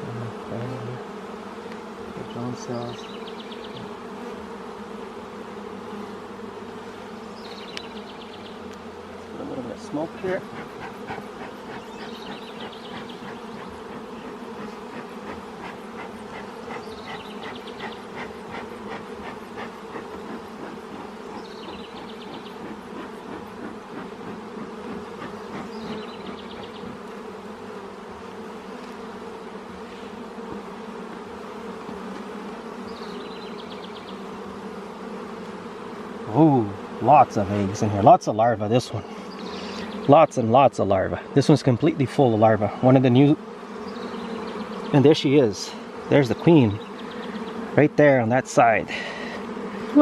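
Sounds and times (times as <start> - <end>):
bees buzzing: 0.0 - 50.0.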